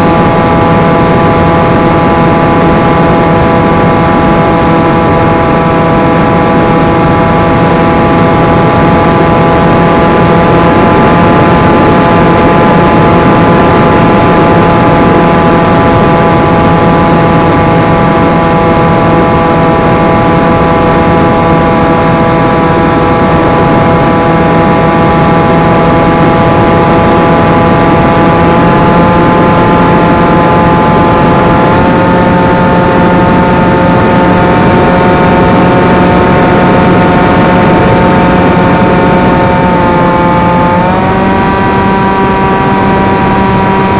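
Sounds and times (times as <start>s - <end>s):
electric motor and propeller whine: 0.0s - 43.9s.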